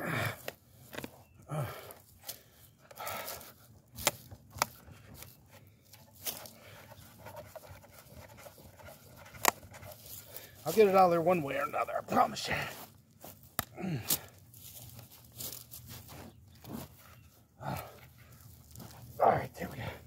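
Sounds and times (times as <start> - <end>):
man breathing hard and straining: 0.0 - 5.2, 6.1 - 10.7, 12.5 - 20.0.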